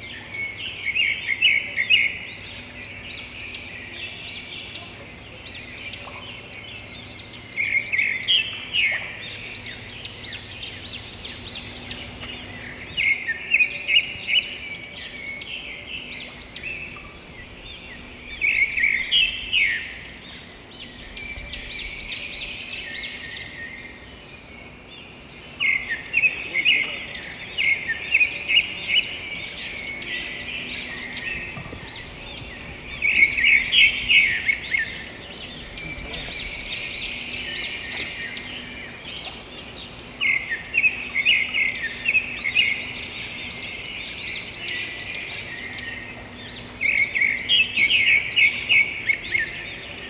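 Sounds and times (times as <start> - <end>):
songbirds chirping: 0.0 - 50.0.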